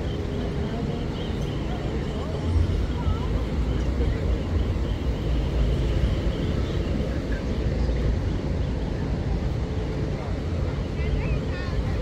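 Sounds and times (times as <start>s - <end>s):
beach ambience low rumble: 0.0s - 12.0s.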